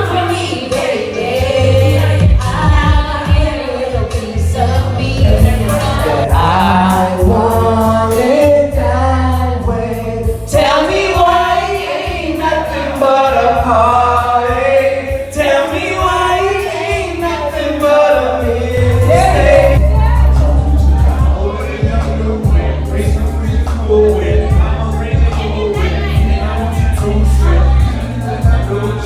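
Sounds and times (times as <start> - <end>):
backing music with strong bass: 0.0 - 29.0
people singing: 0.0 - 29.0.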